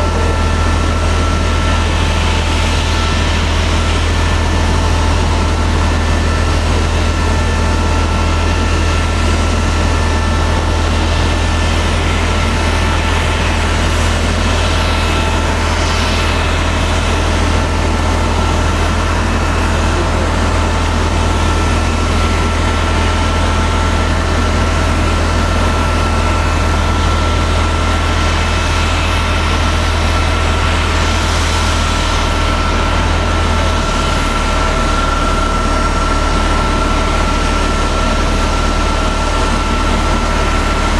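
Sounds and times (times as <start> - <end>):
jet turbine whine: 0.0 - 40.9
low engine rumble: 0.0 - 40.9.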